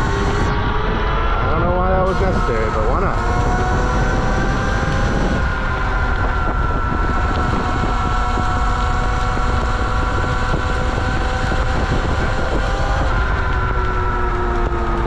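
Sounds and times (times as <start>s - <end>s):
electric motor whining: 0.0s - 15.0s
wind rumble on microphone: 0.0s - 15.0s.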